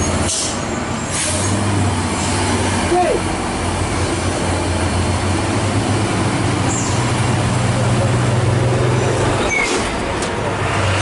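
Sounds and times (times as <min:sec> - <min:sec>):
traffic passing: 0:00.0 - 0:11.0
truck diesel engine under load: 0:00.0 - 0:11.0.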